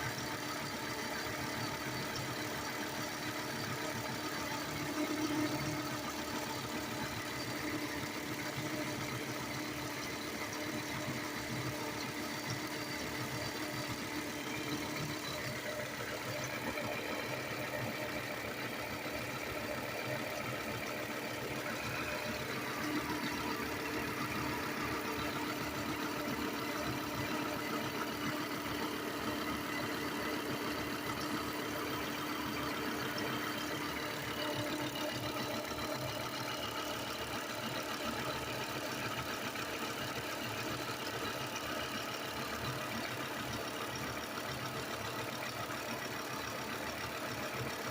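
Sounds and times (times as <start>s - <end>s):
rhythmic chirping from engine belt: 0.0s - 47.9s
car engine idling: 0.1s - 47.9s.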